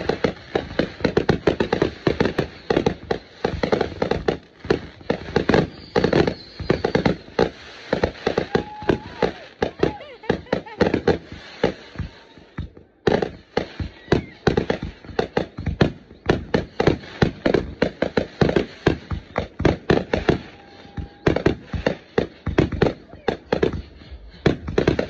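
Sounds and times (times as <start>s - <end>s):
fireworks bangs and pops: 0.0s - 25.0s.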